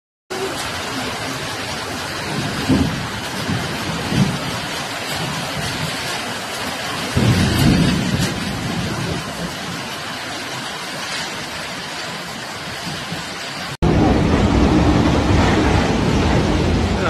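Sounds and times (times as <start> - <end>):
heavy rain falling: 0.3 - 17.0
thunder rumbling: 0.3 - 17.0.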